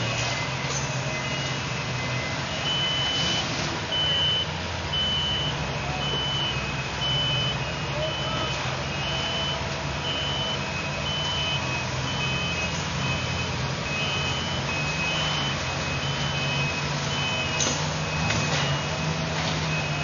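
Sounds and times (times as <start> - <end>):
backup alarms beeping: 0.0 - 20.0
diesel engine running: 0.0 - 20.0.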